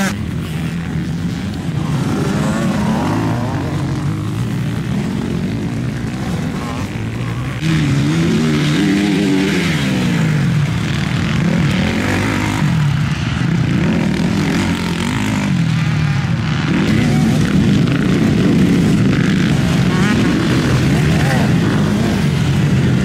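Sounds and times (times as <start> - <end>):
racing engines revving: 0.0 - 23.0.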